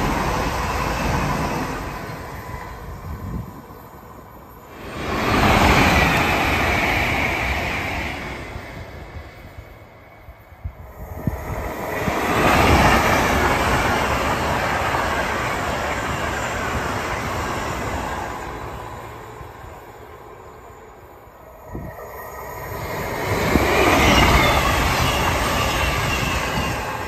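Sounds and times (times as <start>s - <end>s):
high-speed train passing: 0.0s - 27.0s.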